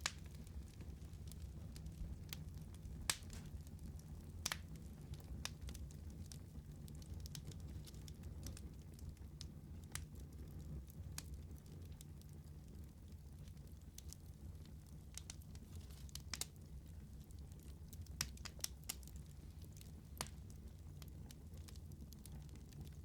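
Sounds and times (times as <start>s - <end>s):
burning wood crackling and popping: 0.0s - 23.0s
wood fire rumbling: 0.0s - 23.0s.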